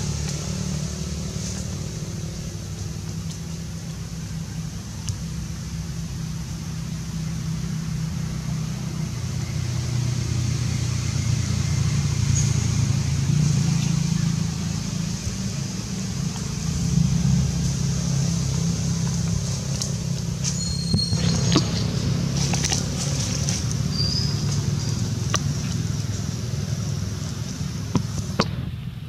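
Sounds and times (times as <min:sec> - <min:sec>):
motor engine running: 0:00.0 - 0:29.0.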